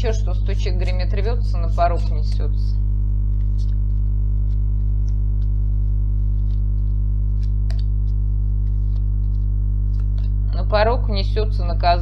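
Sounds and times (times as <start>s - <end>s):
low-pitched drone: 0.0s - 12.0s.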